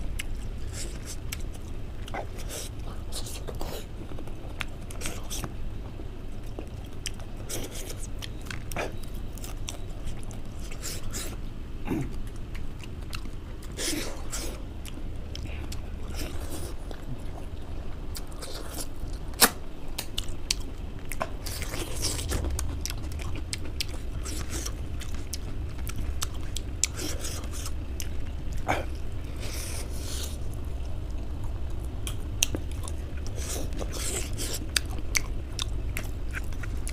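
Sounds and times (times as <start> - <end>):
man chewing and biting food: 0.0 - 36.9.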